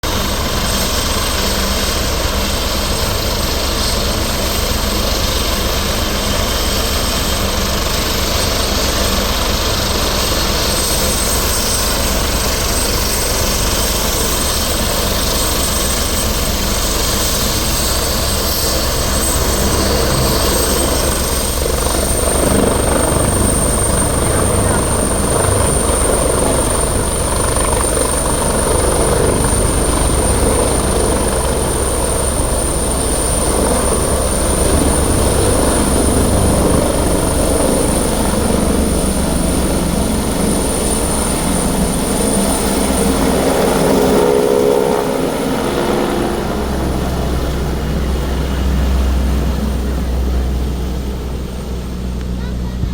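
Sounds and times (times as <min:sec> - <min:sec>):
helicopter rotor chopping: 0:00.1 - 0:52.9
thin high whine: 0:10.2 - 0:52.9.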